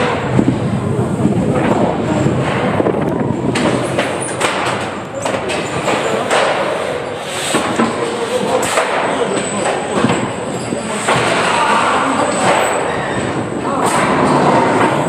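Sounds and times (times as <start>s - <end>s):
coaster wheels rumbling on track: 0.0s - 15.0s.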